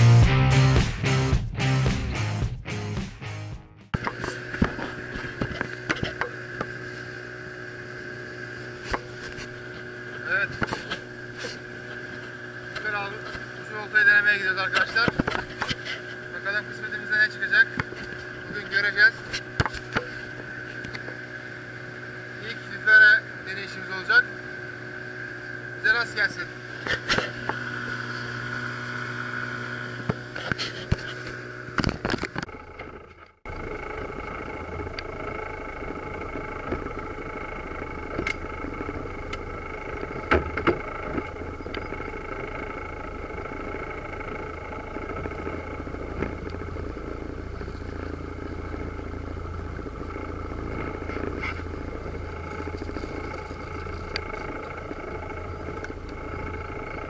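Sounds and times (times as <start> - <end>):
outboard motor running: 0.0 - 3.2, 3.8 - 57.0
outboard motor idling hum: 3.9 - 57.0.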